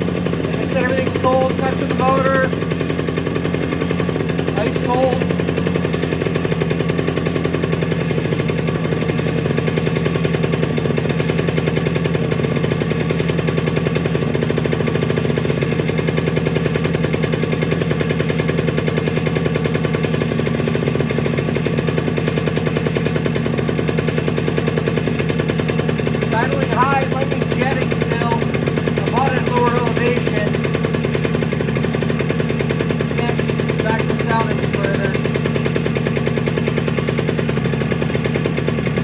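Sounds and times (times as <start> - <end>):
two-stroke motorcycle engine idling: 0.0 - 39.0.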